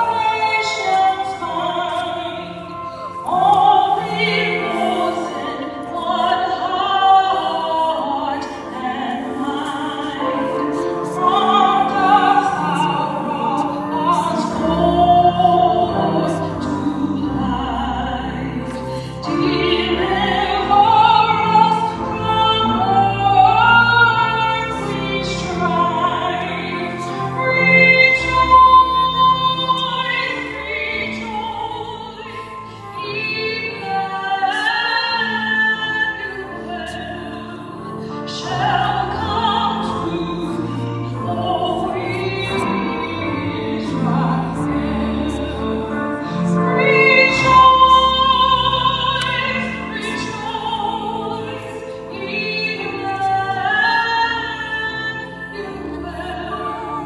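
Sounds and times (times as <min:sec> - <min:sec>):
low instrumental accompaniment: 0:00.0 - 0:57.0
woman singing into microphone: 0:00.0 - 0:57.0.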